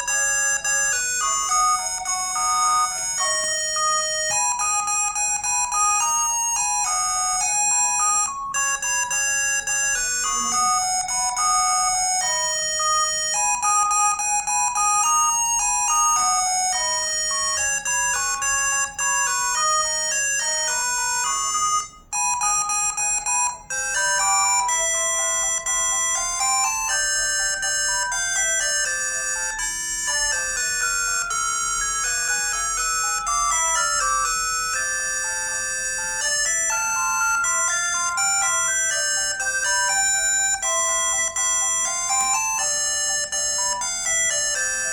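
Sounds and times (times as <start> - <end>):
mobile phone ringtone melody: 0.0 - 44.9.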